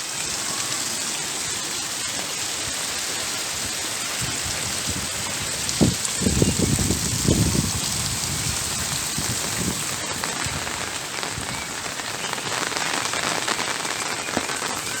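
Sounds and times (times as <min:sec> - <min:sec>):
rain falling on a roof: 0:00.0 - 0:15.0.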